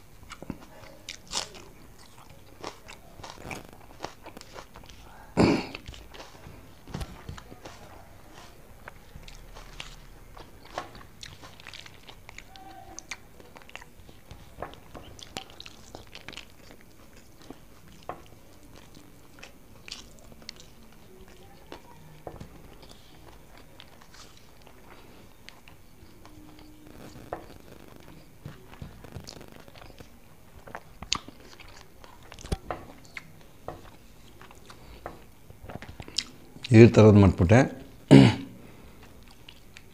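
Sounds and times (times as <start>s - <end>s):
chewing and mouth smacks: 0.2s - 36.7s, 39.0s - 39.9s.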